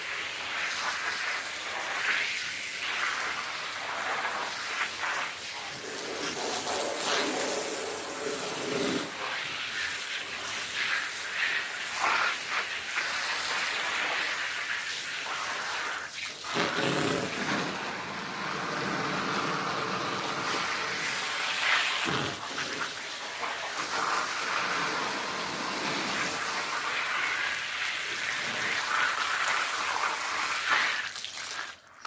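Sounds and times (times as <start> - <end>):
water spraying on carpet: 0.0 - 32.0.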